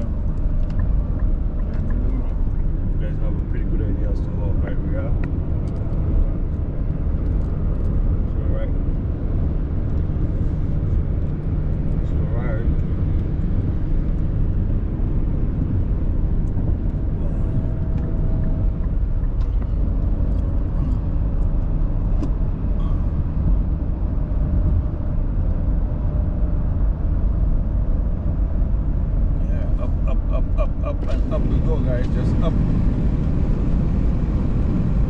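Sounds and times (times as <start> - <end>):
road noise: 0.0 - 35.0
vehicle engine rumble: 0.0 - 35.0.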